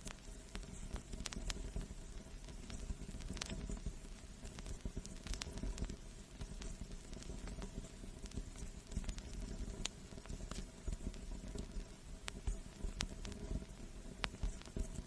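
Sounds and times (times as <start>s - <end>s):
vinyl pops and clicks: 0.0s - 15.0s
vinyl record surface hiss: 0.0s - 15.0s.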